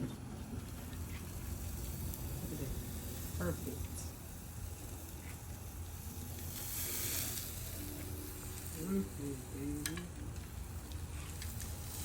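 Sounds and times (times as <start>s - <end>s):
steaks sizzling on a grill: 0.4s - 12.0s.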